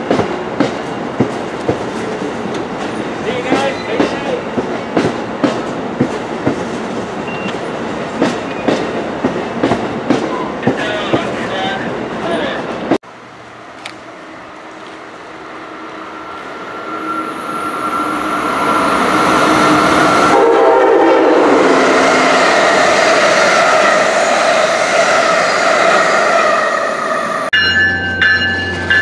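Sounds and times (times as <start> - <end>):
coach wheels rushing on rails: 0.0 - 29.0
passenger train passing: 0.0 - 29.0.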